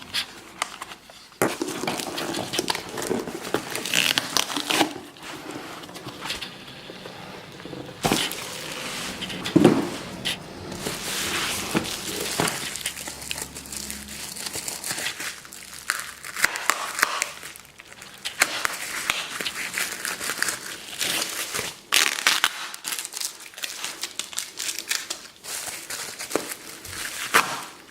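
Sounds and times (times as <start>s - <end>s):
packaging crinkling and rustling: 0.0s - 27.9s.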